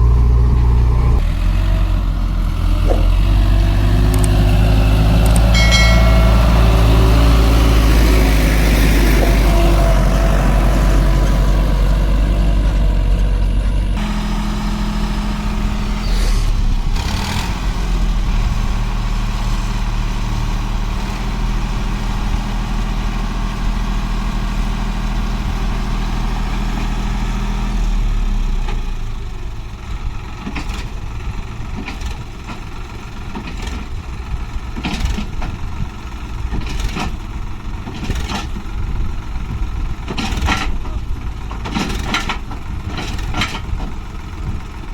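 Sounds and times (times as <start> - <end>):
heavy diesel engine running: 0.0 - 44.9
rough engine with knocks: 0.0 - 44.9.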